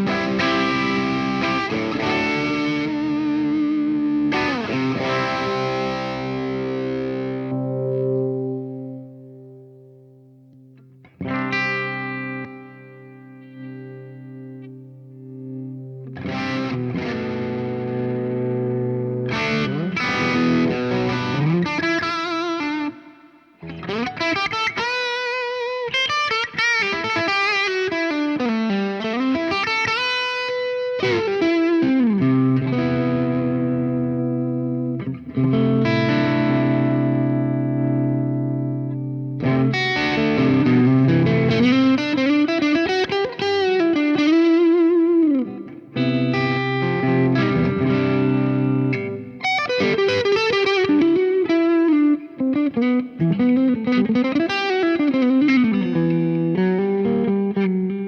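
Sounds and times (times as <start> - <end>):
overdriven electric guitar: 0.0 - 58.0.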